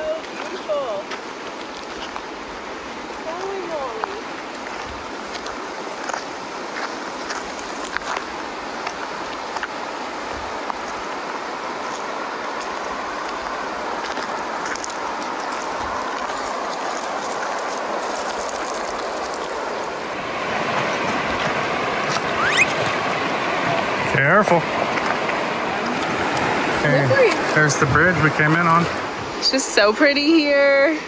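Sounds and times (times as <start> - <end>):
river rushing over cobbles: 0.0 - 31.0.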